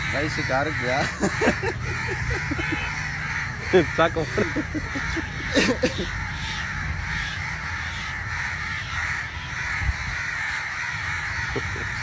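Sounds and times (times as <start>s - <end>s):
crow cawing: 0.0s - 12.0s.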